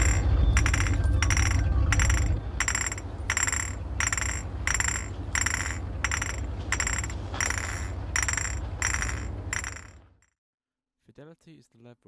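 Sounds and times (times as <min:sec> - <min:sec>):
glass bottles clinking: 0:00.0 - 0:09.9
low steady hum: 0:00.0 - 0:10.1.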